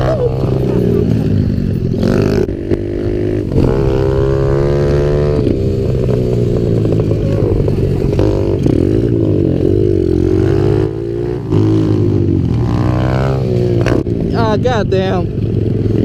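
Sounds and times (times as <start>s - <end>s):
pit bike engines revving: 0.0s - 16.0s.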